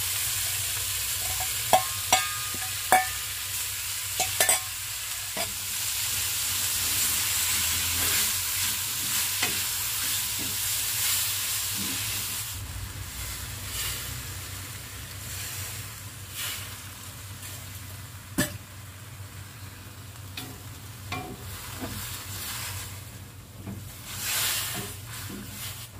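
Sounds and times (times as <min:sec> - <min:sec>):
food sizzling in a wok: 0:00.0 - 0:25.9.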